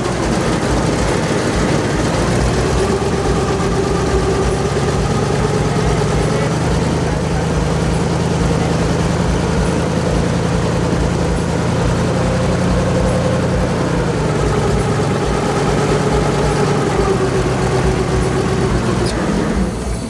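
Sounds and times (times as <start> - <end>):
airboat engine drone: 0.0 - 20.0.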